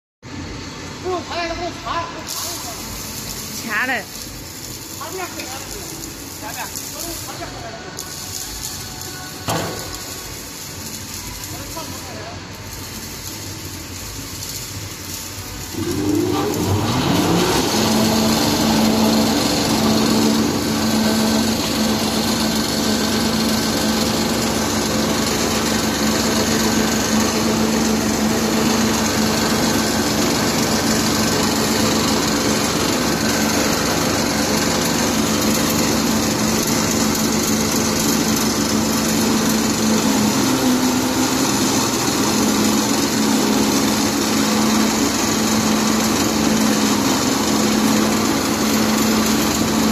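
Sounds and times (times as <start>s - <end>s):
pellet machine motor humming: 0.4s - 49.9s.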